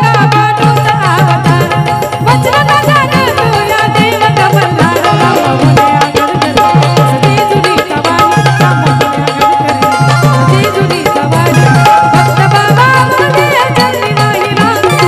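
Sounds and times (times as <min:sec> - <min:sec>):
held melody line: 0:00.0 - 0:15.0.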